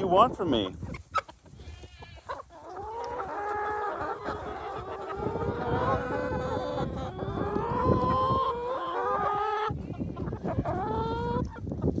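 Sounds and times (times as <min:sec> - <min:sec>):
chickens calling: 0:00.0 - 0:12.0.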